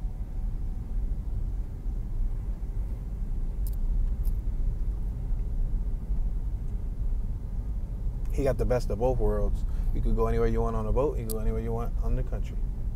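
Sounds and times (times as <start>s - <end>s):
car cabin road and engine rumble: 0.0s - 12.9s.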